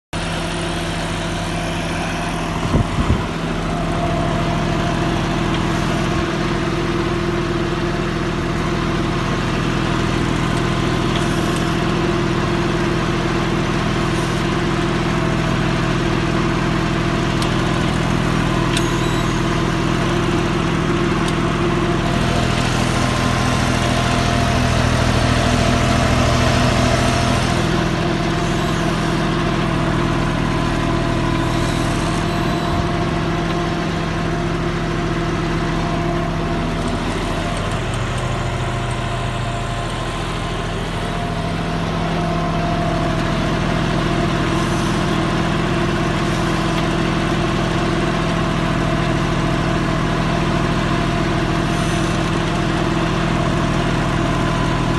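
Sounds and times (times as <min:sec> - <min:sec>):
tractor diesel engine running: 0:00.1 - 0:54.9.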